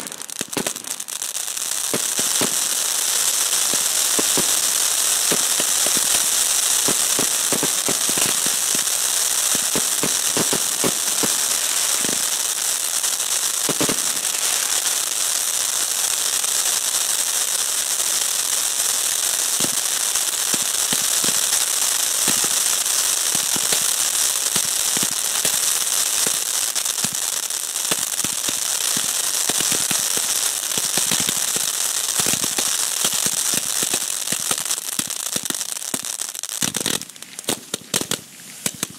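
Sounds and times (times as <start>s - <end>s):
firework fountains hissing: 0.0s - 38.9s
fireworks popping and crackling: 0.0s - 38.9s.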